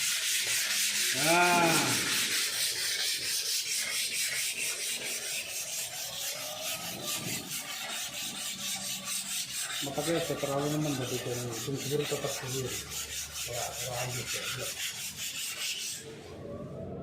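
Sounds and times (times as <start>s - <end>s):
hand sanding with sandpaper: 0.0s - 16.1s.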